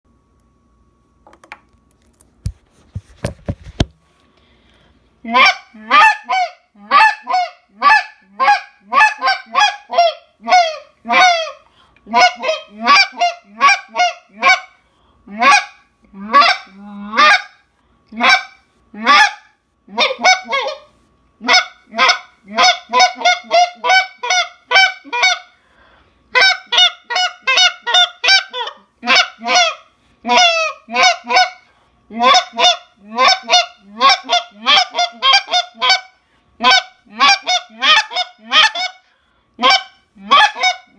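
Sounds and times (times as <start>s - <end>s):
goose call honks: 5.3s - 14.7s, 15.3s - 17.6s, 18.2s - 25.5s, 26.3s - 39.0s, 39.6s - 40.9s.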